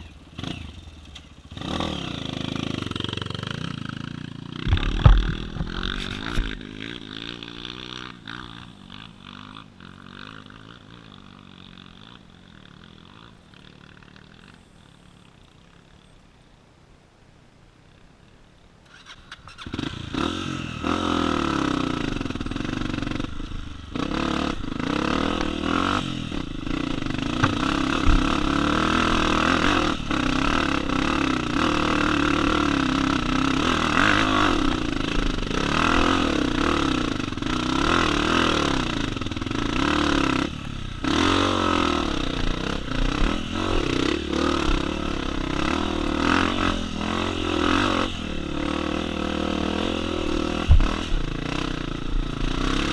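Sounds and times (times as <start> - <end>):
dirt bike engine revving: 0.0 - 15.1, 18.9 - 52.9.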